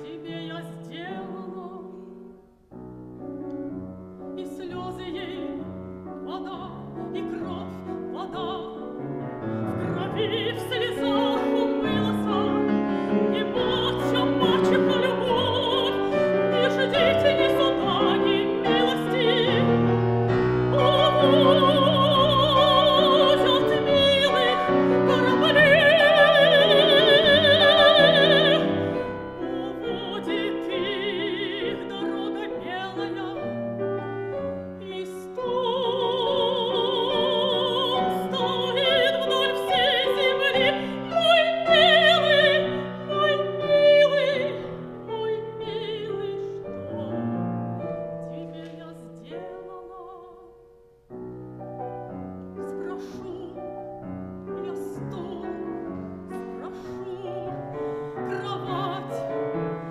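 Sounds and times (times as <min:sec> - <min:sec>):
operatic soprano singing: 0:00.0 - 0:02.4, 0:04.3 - 0:50.6, 0:52.6 - 0:59.9
grand piano accompaniment: 0:00.0 - 0:59.9.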